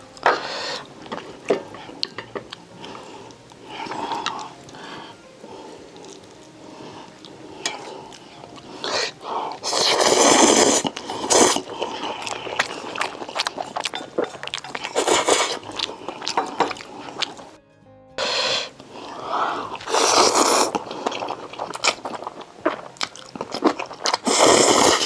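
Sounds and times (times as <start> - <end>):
chewing: 0.0 - 17.6, 18.2 - 25.0
slurping: 0.2 - 17.6, 18.2 - 25.0.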